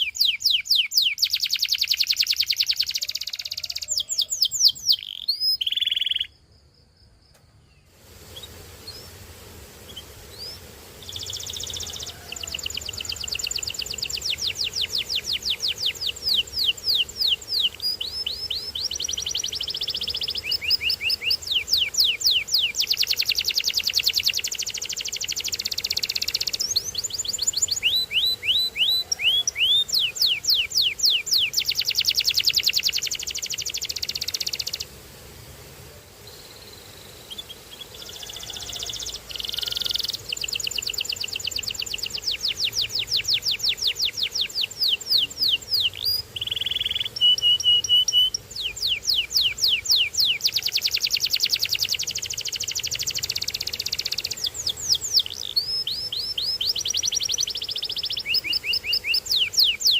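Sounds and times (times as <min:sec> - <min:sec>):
canary singing: 0:00.0 - 0:06.4, 0:07.7 - 0:09.2, 0:09.8 - 0:34.9, 0:36.4 - 0:59.9.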